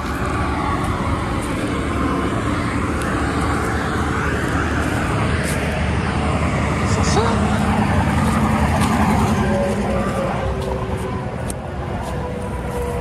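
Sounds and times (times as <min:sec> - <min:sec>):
highway traffic roar: 0:00.0 - 0:13.0.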